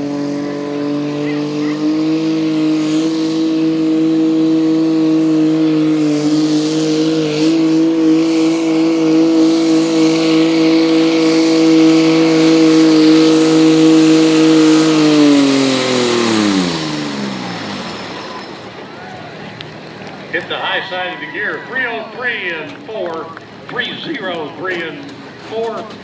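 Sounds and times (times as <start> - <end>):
tractor engine revving: 0.0 - 26.0.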